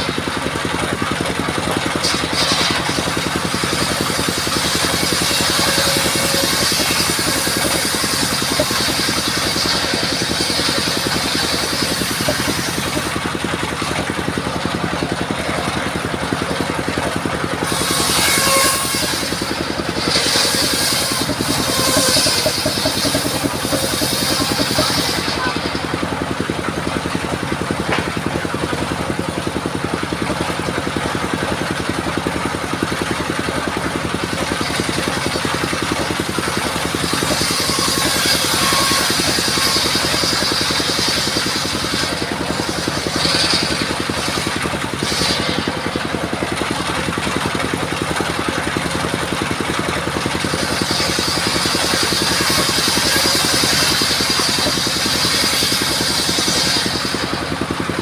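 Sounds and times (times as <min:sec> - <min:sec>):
saw blade cutting wood: 0:00.0 - 0:58.0
saw mill running: 0:00.0 - 0:58.0.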